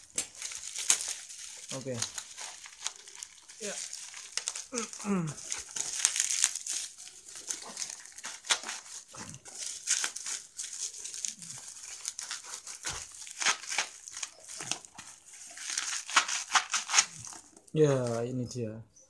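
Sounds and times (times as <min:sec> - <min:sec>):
bubble wrap crinkling: 0:00.0 - 0:18.3.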